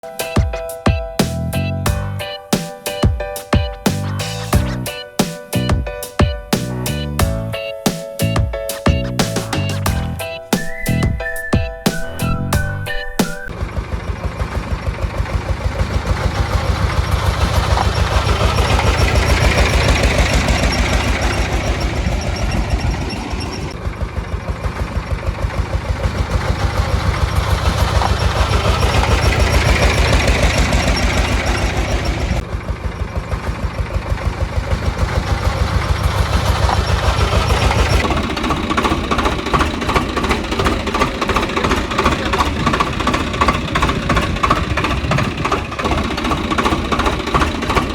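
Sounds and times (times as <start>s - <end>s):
tractor engine knocking: 8.2s - 47.9s.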